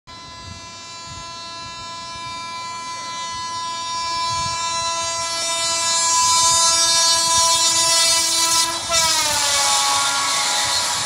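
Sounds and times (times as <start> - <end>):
train horn blast: 0.1 - 11.0
rush of passing train: 1.8 - 11.0.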